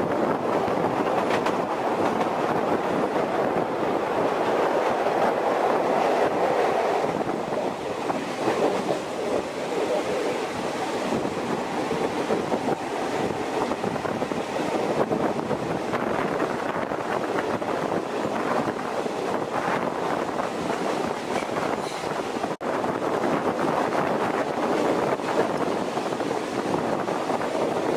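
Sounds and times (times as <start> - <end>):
train wheels rumbling: 0.0 - 27.9.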